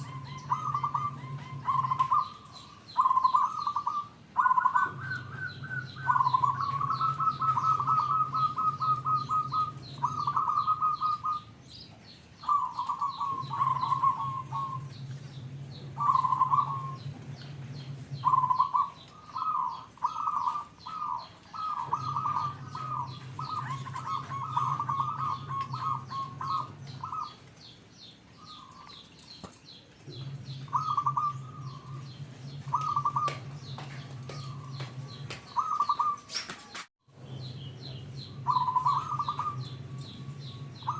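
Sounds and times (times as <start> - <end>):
low steady hum: 0.0 - 35.6, 37.1 - 40.9
dove calling in rattling notes: 0.0 - 40.9.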